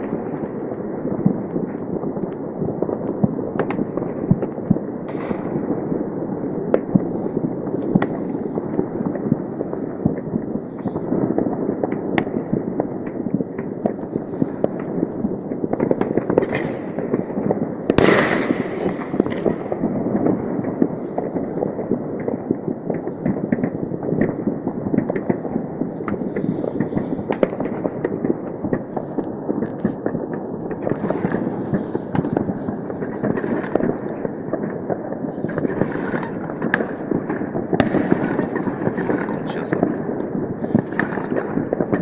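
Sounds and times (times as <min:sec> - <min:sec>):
distant fireworks bangs and crackles: 0:00.0 - 0:42.0.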